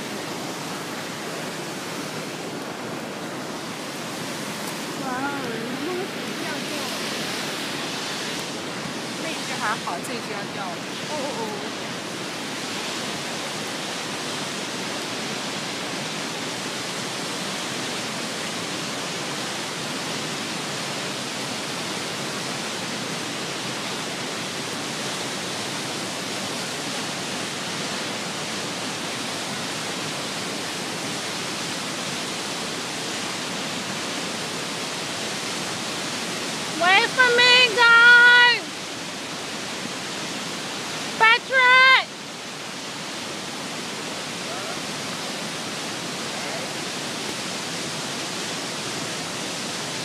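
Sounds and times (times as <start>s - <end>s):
whitewater rushing: 0.0s - 50.0s.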